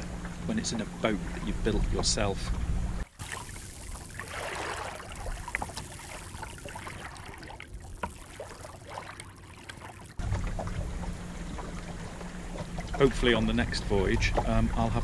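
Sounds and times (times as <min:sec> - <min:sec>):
water lapping along boat hull: 0:00.0 - 0:15.0.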